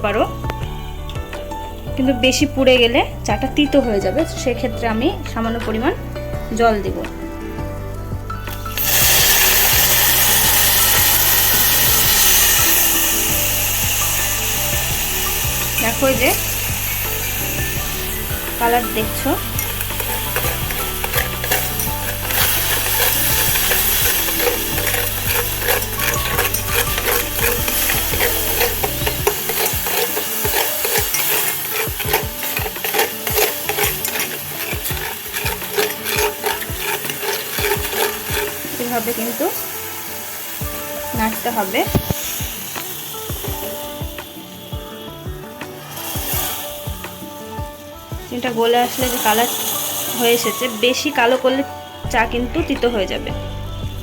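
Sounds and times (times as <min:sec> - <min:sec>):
sugar sizzling in hot pan: 0:00.0 - 0:54.0.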